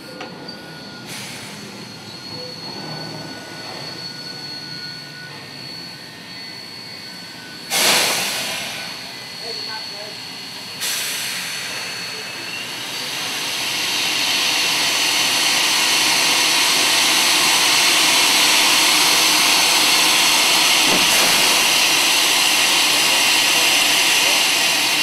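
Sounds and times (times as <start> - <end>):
steam locomotive hissing steam: 0.0 - 25.0.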